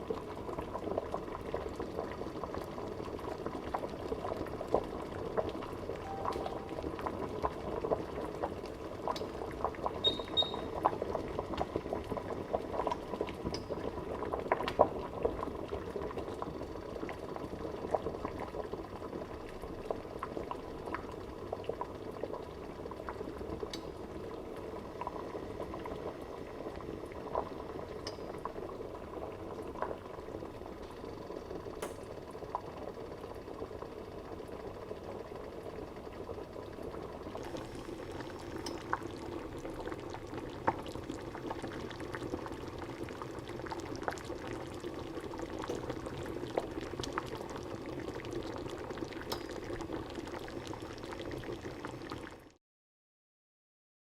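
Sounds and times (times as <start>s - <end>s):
water boiling in a pan: 0.0s - 52.6s.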